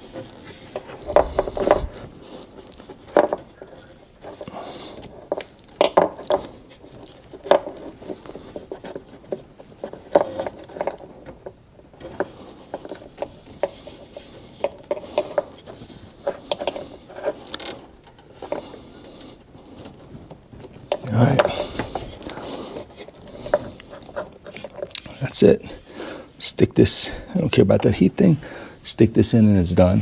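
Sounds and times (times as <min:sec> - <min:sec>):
rustling: 0:00.0 - 0:30.0.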